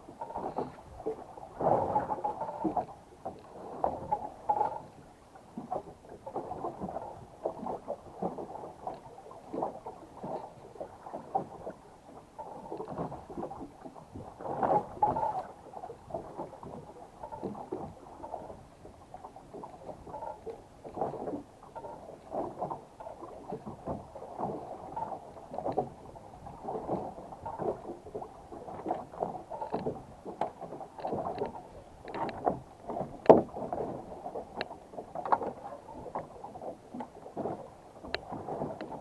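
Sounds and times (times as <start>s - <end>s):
knocking and clattering on boat: 0.0s - 39.0s.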